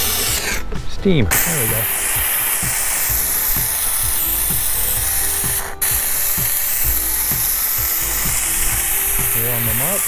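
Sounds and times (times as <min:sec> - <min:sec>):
steam gun hissing: 0:00.0 - 0:10.0.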